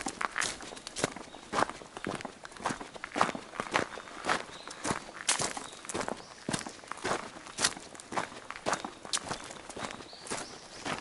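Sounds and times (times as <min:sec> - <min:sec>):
hiker footsteps: 0:00.0 - 0:11.0.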